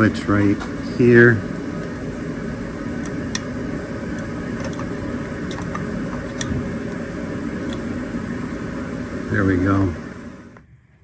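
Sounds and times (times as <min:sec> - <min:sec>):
steady rumbling noise: 0:00.0 - 0:10.6.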